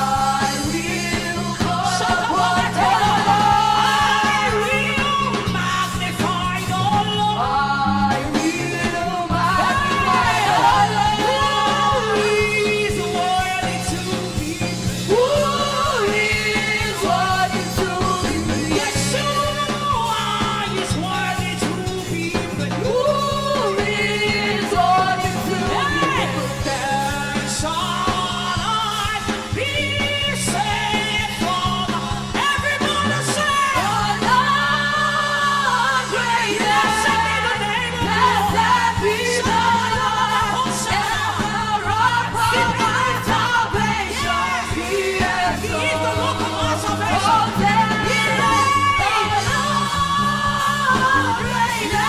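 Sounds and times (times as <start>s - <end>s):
held bass notes: 0.0s - 52.0s
woman singing: 0.0s - 52.0s.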